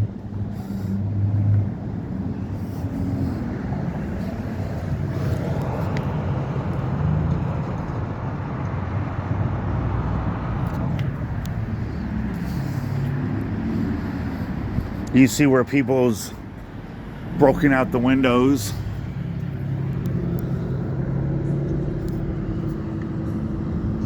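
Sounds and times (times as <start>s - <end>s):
passing cars rumbling: 0.0s - 24.0s.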